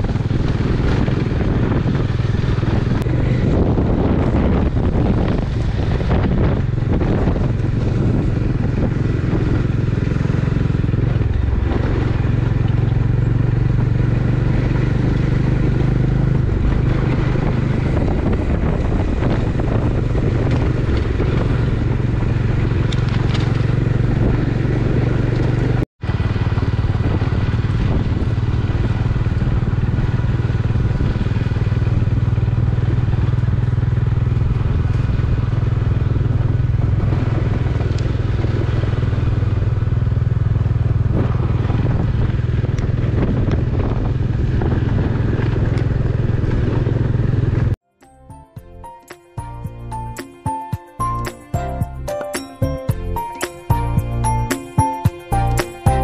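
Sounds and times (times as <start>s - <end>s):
motorcycle engine running: 0.0s - 47.8s, 48.6s - 56.0s
wind and road noise: 0.0s - 56.0s.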